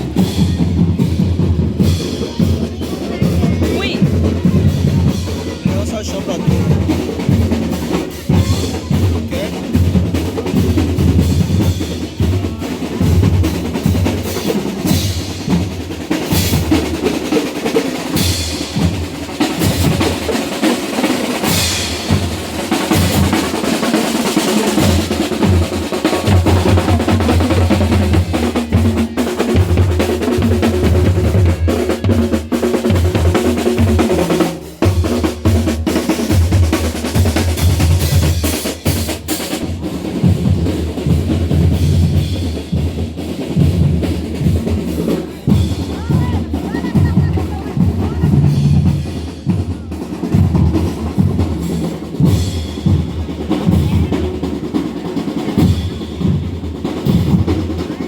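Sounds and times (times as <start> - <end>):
marching band drums: 0.0 - 58.0.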